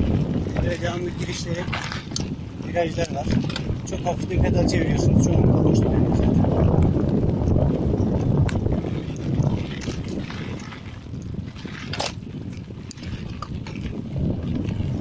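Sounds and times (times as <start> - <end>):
bike rattles and clicks: 0.0 - 15.0
bike tyres rolling on dirt: 0.0 - 15.0
wind on microphone: 0.0 - 15.0.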